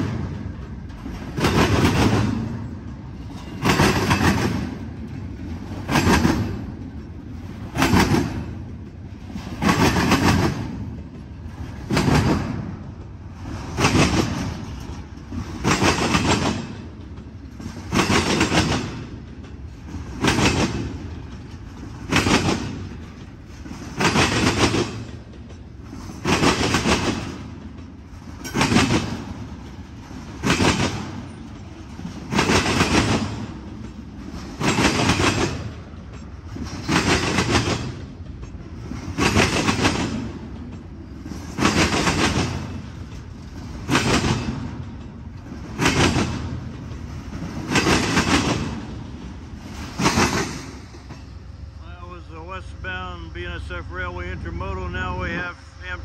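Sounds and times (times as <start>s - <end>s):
wheels clickety-clacking: 0.0s - 51.4s
train wheels rumbling on rail: 0.0s - 56.0s.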